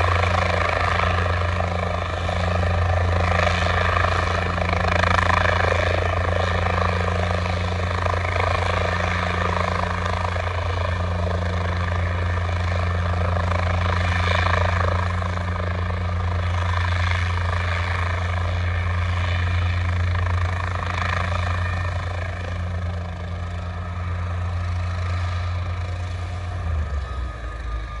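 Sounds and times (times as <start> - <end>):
helicopter engine hum: 0.0 - 28.0
helicopter rotor beat: 0.0 - 28.0.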